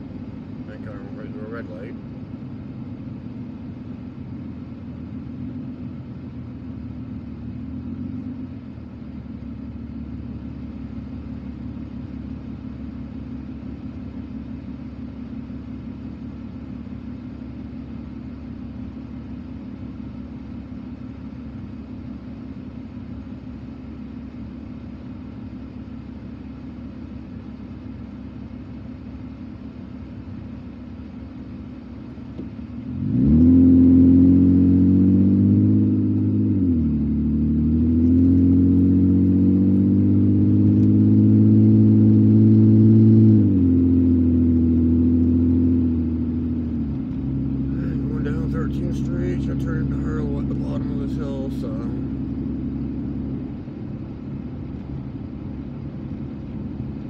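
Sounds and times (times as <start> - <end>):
car engine heard from inside cabin: 0.0 - 57.0.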